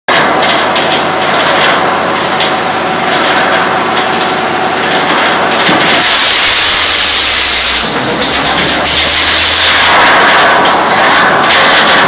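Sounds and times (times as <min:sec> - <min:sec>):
machinery humming: 0:00.1 - 0:12.0.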